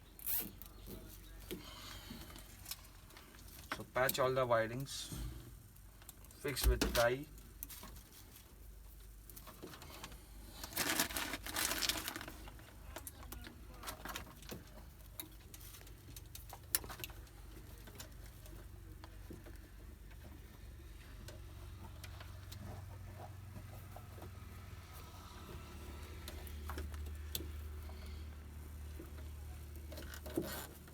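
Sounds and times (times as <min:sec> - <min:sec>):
wiring rustling: 0:00.0 - 0:30.9.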